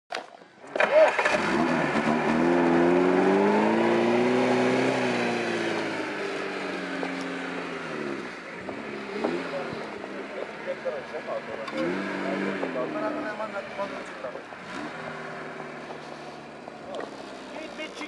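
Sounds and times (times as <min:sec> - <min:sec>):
car engine revving: 0:00.8 - 0:18.0.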